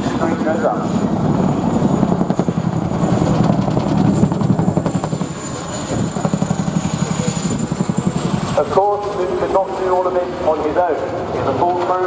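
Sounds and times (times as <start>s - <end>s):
helicopter rotors beating: 0.0s - 12.0s
turbine whine: 0.0s - 12.0s.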